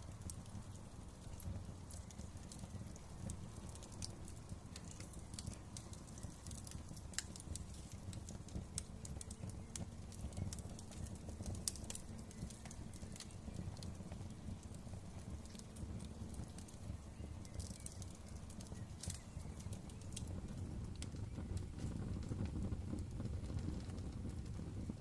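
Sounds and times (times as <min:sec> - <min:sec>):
low rumble of fire: 0:00.0 - 0:25.0
wood fire crackling and popping: 0:00.0 - 0:25.0.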